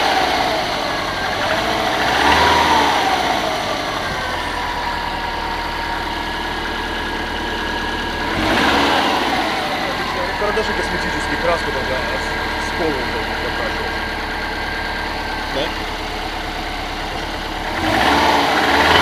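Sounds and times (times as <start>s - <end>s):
car engine idling: 0.0s - 19.0s
engine knock: 0.0s - 19.0s
engine revving: 0.0s - 19.0s.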